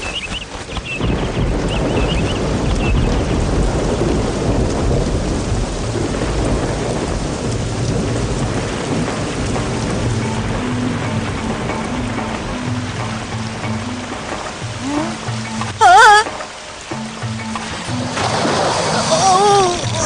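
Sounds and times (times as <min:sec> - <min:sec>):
heavy rain pouring: 0:00.0 - 0:20.0
rolling thunder: 0:00.3 - 0:20.0.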